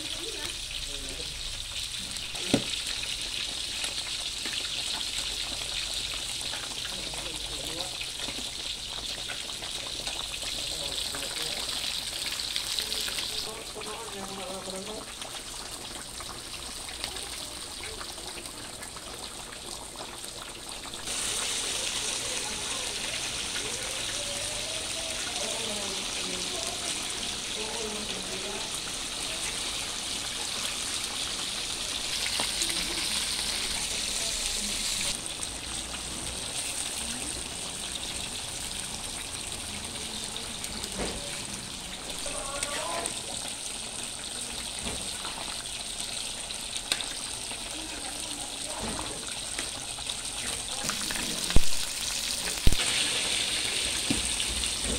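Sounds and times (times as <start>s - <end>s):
coconut milk simmering: 0.0s - 54.9s
fish frying in oil: 0.0s - 54.9s.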